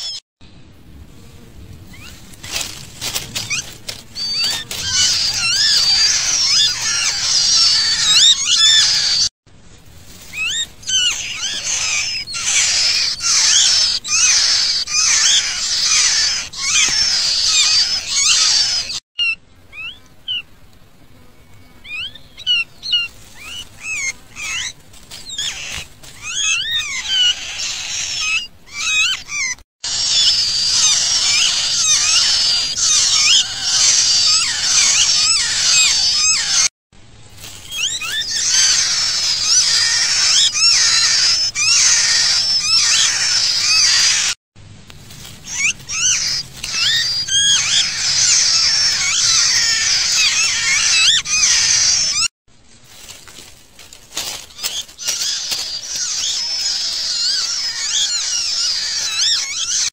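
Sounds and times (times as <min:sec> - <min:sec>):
nestling birds chirping: 0:00.0 - 0:00.2, 0:01.9 - 0:36.7, 0:37.3 - 0:44.4, 0:45.0 - 0:59.9.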